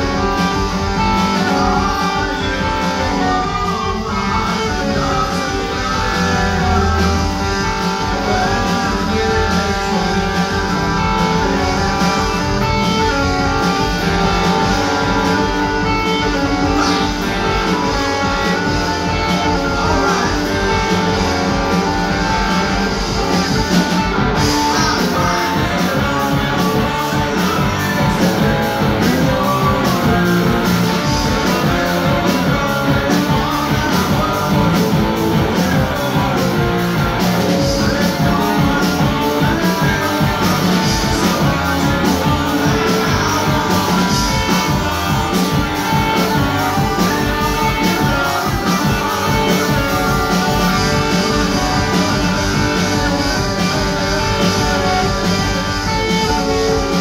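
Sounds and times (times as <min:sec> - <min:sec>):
drum kit: 0:00.0 - 0:57.0
electric guitars: 0:00.0 - 0:57.0
lead singer singing: 0:00.0 - 0:57.0.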